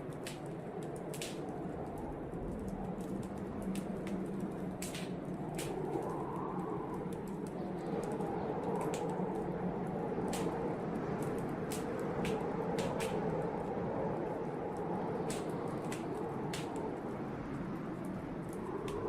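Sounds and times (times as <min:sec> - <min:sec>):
blizzard wind rushing: 0:00.0 - 0:19.0
wood fire crackling: 0:00.0 - 0:19.0.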